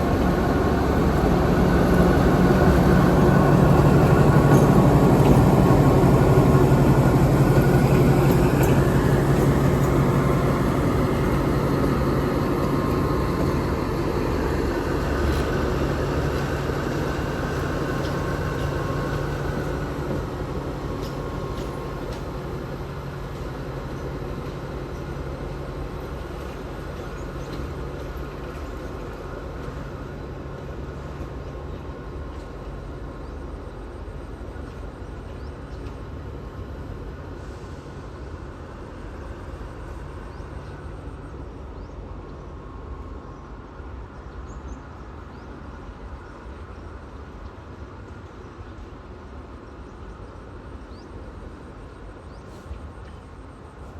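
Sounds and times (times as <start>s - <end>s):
diesel train engine rumbling: 0.0s - 53.9s.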